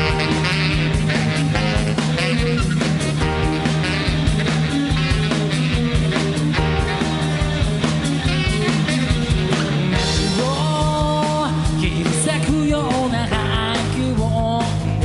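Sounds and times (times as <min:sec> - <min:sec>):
sliding melody line: 0:00.0 - 0:14.5
rock band playing live: 0:00.0 - 0:15.0.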